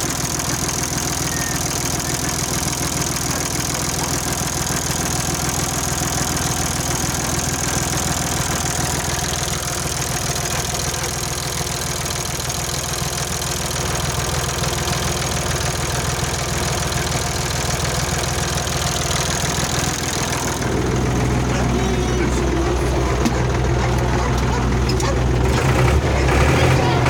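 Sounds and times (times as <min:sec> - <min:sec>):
tractor diesel engine idling: 0:00.0 - 0:27.0.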